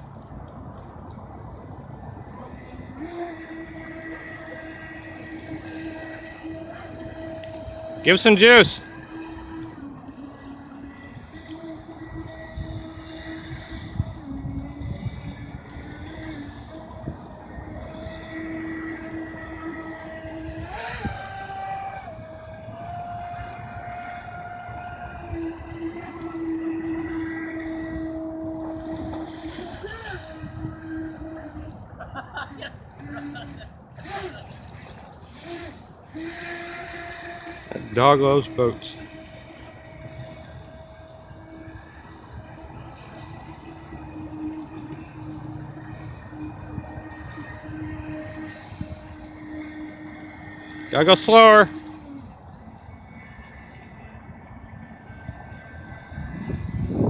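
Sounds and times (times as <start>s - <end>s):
toy boat motor whine: 0.0s - 57.0s.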